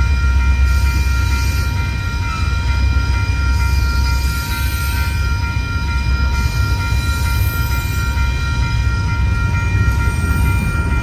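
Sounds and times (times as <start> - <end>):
electronic crossing bell ringing: 0.0 - 11.0
freight train rumbling on rails: 0.0 - 11.0.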